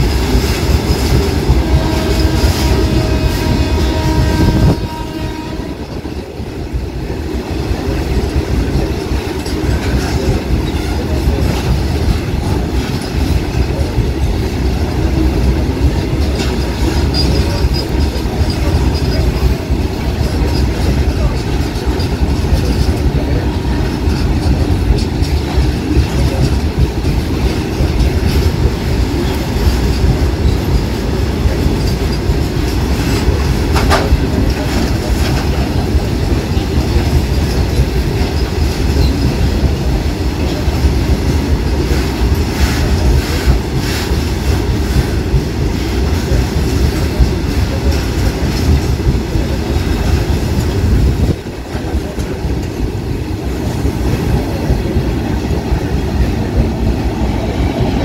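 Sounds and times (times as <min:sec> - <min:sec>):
wheels clattering over rail joints: 0:00.0 - 0:56.7
freight train rumbling: 0:00.0 - 0:58.0.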